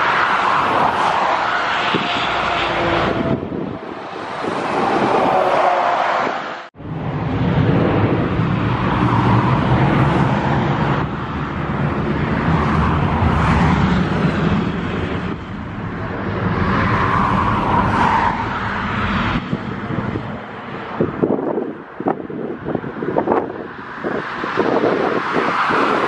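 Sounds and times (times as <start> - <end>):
jet engines rushing: 0.0 - 26.0
wind on microphone: 0.5 - 26.0.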